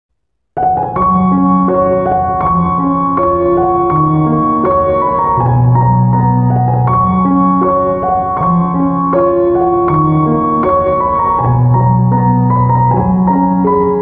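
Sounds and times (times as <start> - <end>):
gentle piano melody: 0.6 - 14.0.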